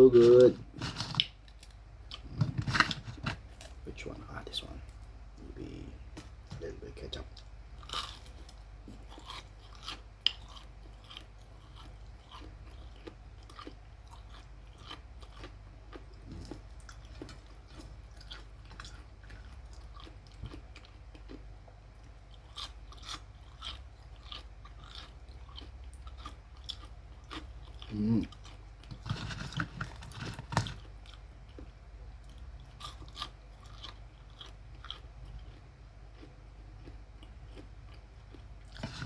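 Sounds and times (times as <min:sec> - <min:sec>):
chewing crispy fried chicken: 0:00.0 - 0:39.0.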